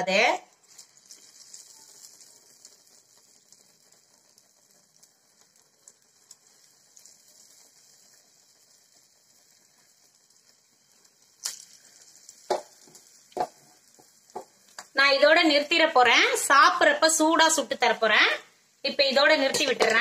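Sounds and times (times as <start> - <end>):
batter sizzling in hot oil: 0.0 - 20.0.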